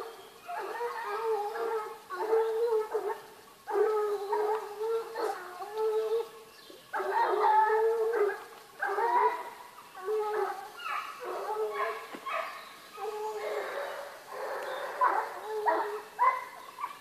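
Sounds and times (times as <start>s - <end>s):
dogs baying: 0.0s - 6.3s, 6.9s - 17.0s.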